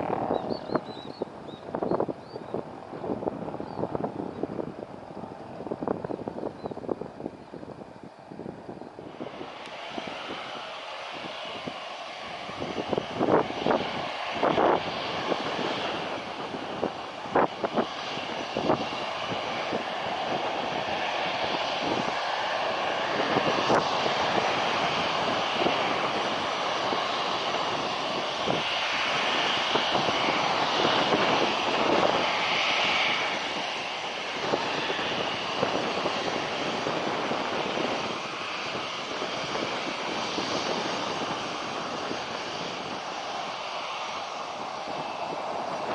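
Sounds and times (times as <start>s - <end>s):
jet engines passing by: 0.0s - 45.9s.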